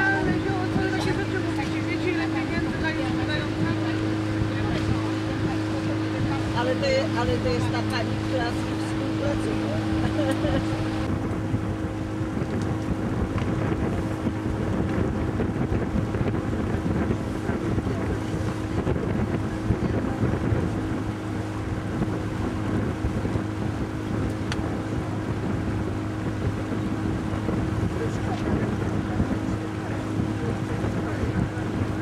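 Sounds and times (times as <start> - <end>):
boat motor humming: 0.0 - 32.0
wind noise on microphone: 0.0 - 32.0.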